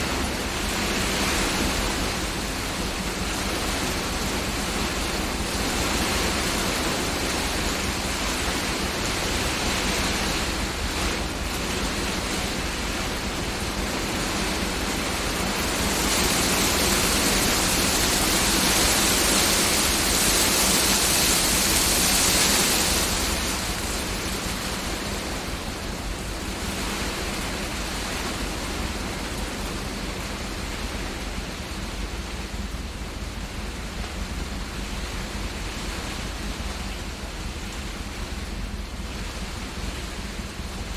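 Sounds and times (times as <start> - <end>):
heavy rain with hail: 0.0 - 40.9
wind: 0.0 - 40.9.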